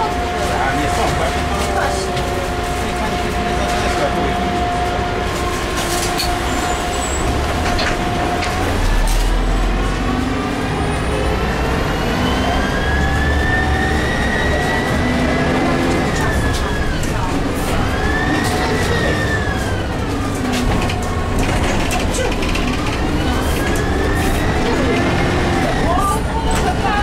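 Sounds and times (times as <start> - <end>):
bus engine whine: 0.0 - 27.0.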